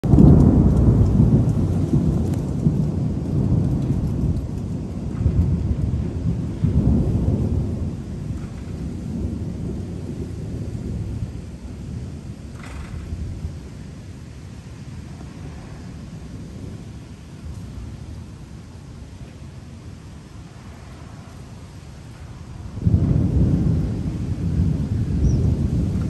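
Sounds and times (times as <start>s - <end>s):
rolling thunder: 0.0s - 26.0s.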